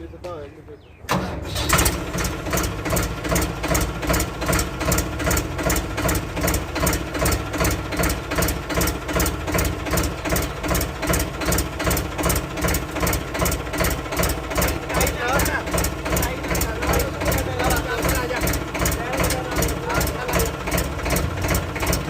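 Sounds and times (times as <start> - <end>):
tractor diesel engine idling: 1.1 - 22.0.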